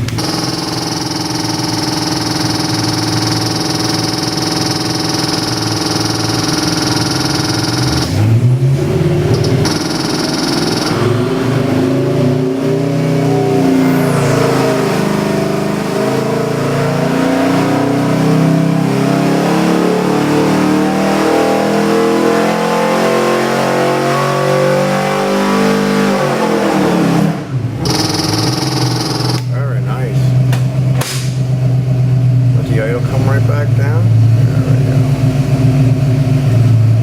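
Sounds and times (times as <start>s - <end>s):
engine at full throttle: 0.0s - 37.0s.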